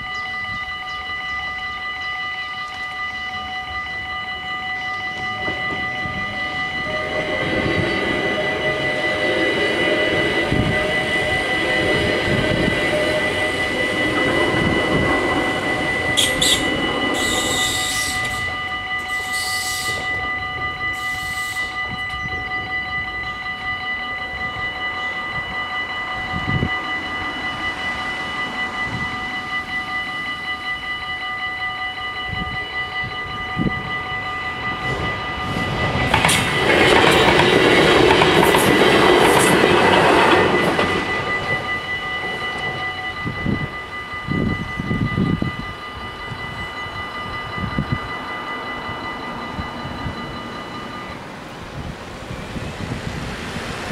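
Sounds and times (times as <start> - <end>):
crossing warning bells ringing: 0.0 - 53.9
train rumbling over level crossing: 0.0 - 53.9.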